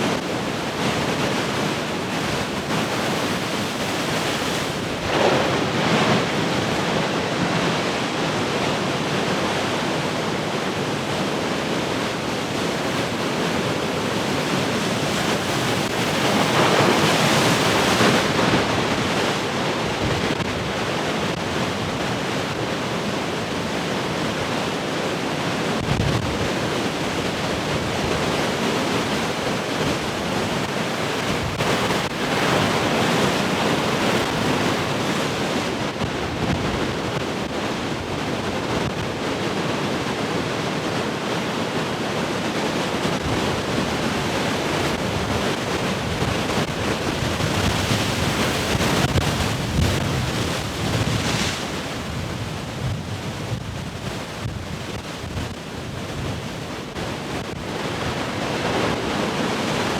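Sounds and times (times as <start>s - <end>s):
wind buffeting microphone: 0.0s - 24.6s, 25.5s - 59.9s
heavy ocean surf: 0.0s - 59.9s.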